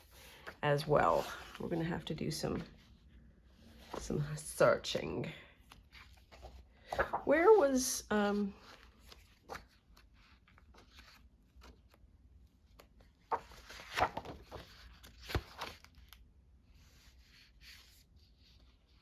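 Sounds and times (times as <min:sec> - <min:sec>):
book pages rustling: 0:00.0 - 0:19.0.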